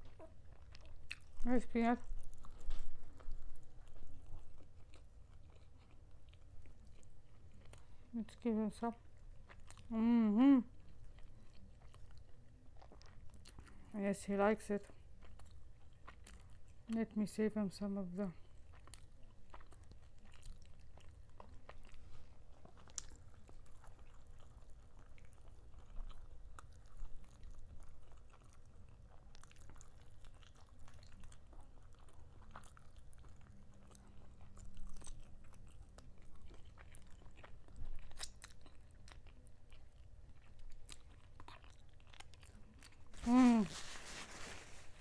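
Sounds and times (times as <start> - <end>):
person chewing food: 0.0 - 8.2, 8.9 - 13.9, 14.8 - 17.1, 18.3 - 45.0.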